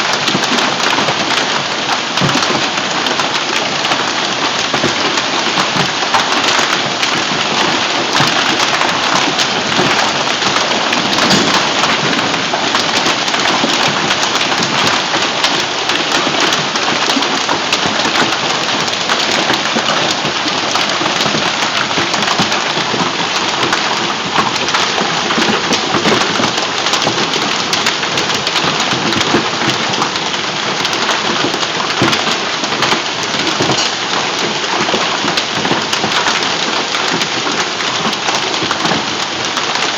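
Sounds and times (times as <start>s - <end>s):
hail and rain pelting down: 0.0s - 39.9s.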